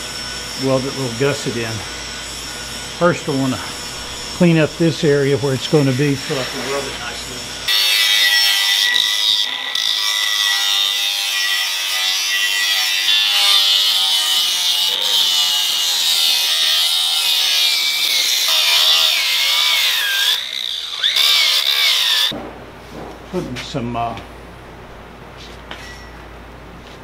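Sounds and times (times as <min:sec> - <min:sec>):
angle grinder grinding metal: 0:00.0 - 0:22.4.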